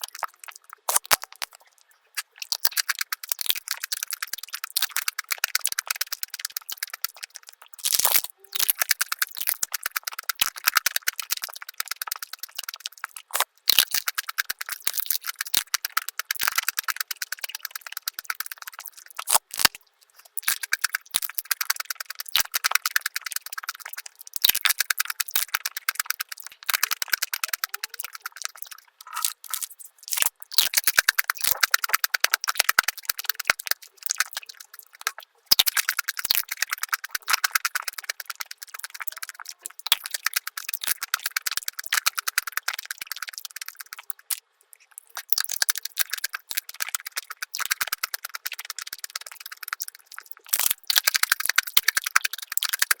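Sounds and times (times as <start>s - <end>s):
sped-up chewing crackles: 0.0s - 53.0s.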